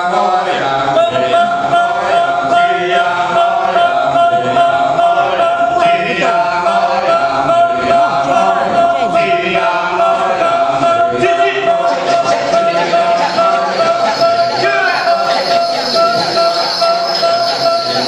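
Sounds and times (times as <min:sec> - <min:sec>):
men chanting in chorus: 0:00.0 - 0:18.0
steady held vocal note: 0:00.0 - 0:18.0.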